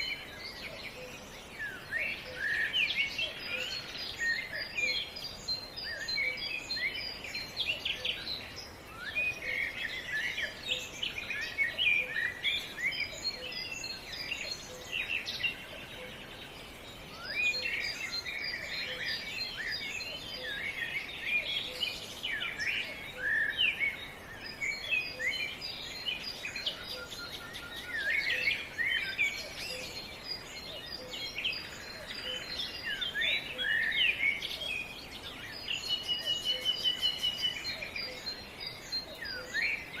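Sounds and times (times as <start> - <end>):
faint outdoor background: 0.0 - 40.0
songbirds chirping: 0.0 - 40.0.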